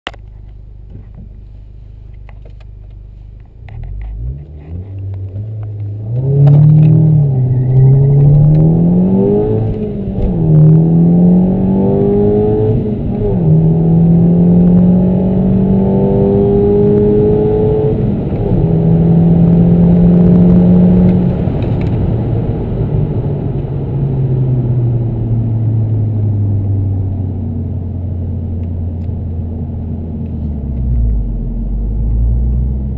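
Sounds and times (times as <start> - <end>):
car engine accelerating: 1.0 - 32.9.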